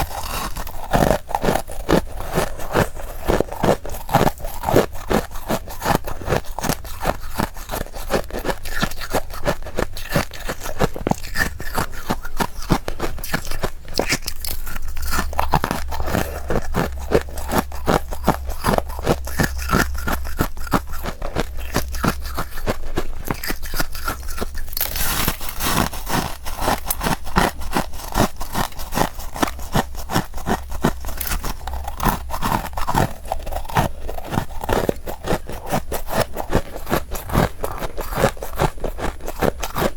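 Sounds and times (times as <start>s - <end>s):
frost being chewed crunching: 0.0s - 39.9s.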